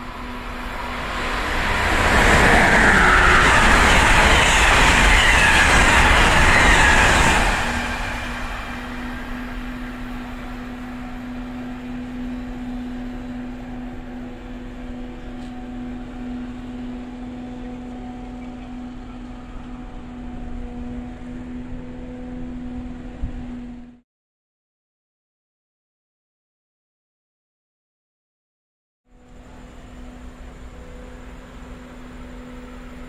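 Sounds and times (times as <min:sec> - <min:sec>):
electric train rushing noise: 0:00.0 - 0:24.0, 0:29.2 - 0:33.0.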